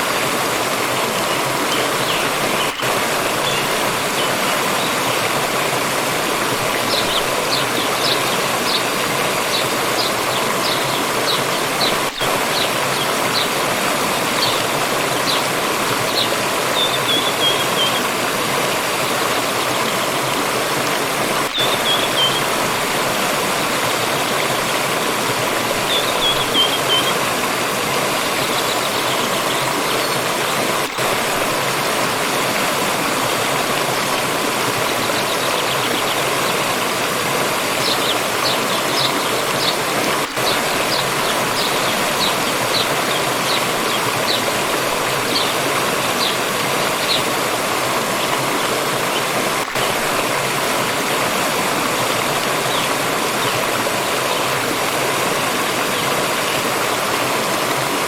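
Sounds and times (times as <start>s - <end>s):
water stream running: 0.0s - 58.0s.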